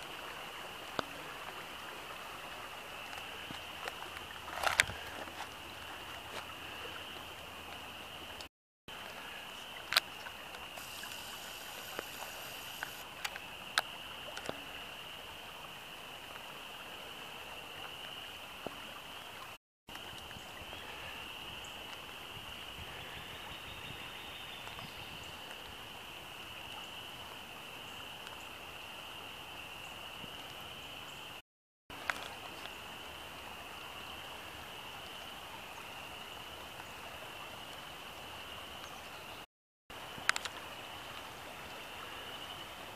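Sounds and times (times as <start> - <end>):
creek running: 0.0 - 42.9.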